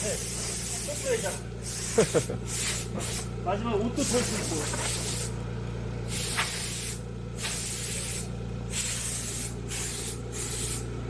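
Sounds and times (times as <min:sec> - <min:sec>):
compressed air blow gun hissing: 0:00.0 - 0:03.3, 0:04.0 - 0:05.4, 0:06.1 - 0:10.9
steady low hum: 0:00.0 - 0:11.0.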